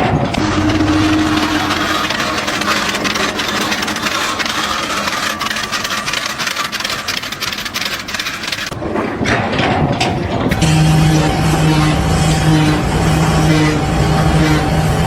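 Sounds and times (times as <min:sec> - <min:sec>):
machine motor clattering: 0:00.0 - 0:14.7.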